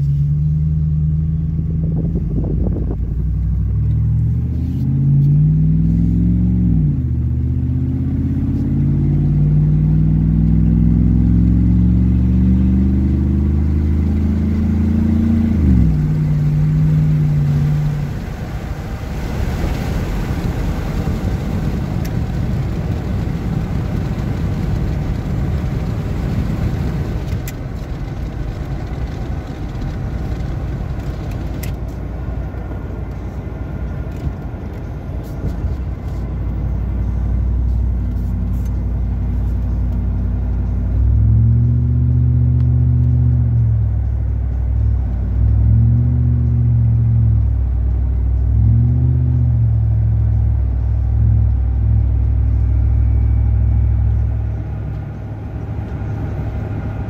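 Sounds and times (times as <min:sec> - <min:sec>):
engine exhaust accelerating: 0:00.0 - 0:57.0
road noise: 0:00.0 - 0:57.0.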